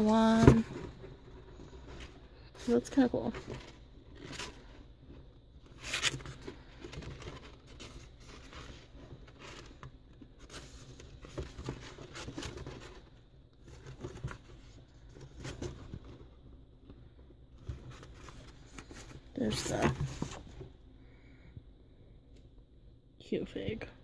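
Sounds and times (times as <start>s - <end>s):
items rustling in cardboard box: 0.0s - 20.9s.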